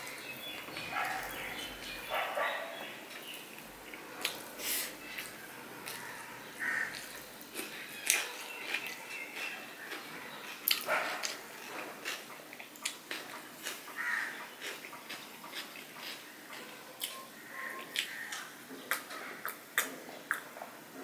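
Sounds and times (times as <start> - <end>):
close-miked chewing: 0.0 - 20.5.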